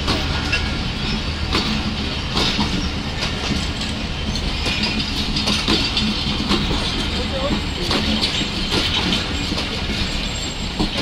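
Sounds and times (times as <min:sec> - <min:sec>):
train wheels rumbling on rail: 0:00.0 - 0:11.0
wheels clicking over rail joints: 0:00.0 - 0:11.0.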